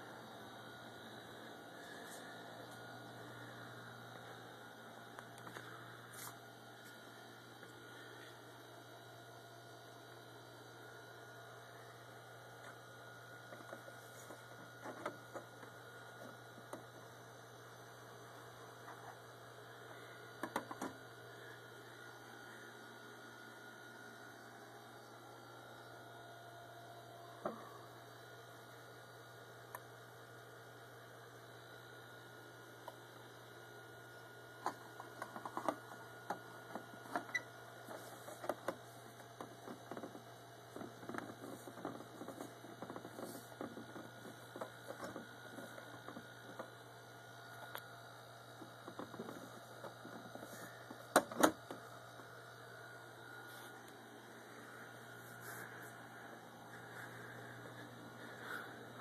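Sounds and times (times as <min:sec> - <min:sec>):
electrical mains hum: 0:00.0 - 0:59.0
faint high whine: 0:00.0 - 0:59.0.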